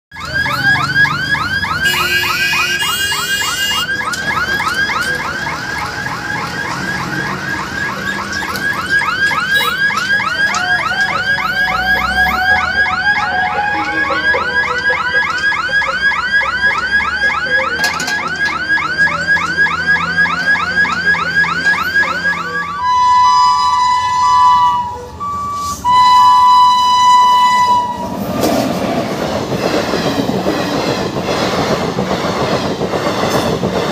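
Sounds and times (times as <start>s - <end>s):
level crossing warning chirp: 0.2s - 17.8s, 18.5s - 28.1s.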